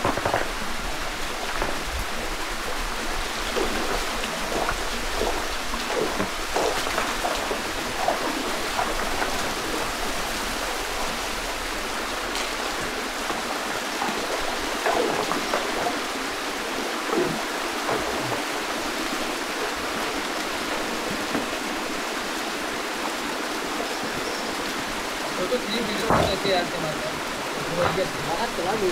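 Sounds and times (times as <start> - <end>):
water splashing: 0.0 - 28.9
waterfall rushing: 0.0 - 28.9.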